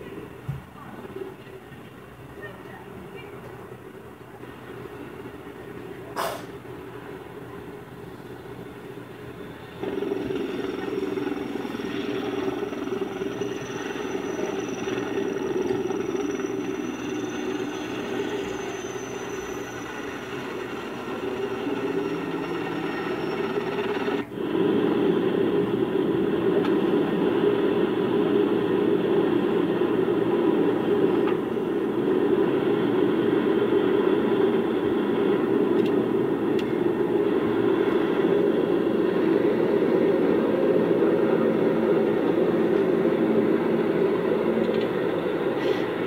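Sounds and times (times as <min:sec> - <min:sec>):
aircraft engine drone: 0:03.7 - 0:46.0.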